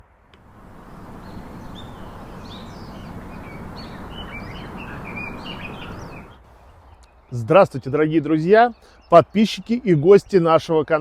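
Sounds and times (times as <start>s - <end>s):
outdoor background hiss: 0.0s - 11.0s
small birds chirping: 0.4s - 10.4s.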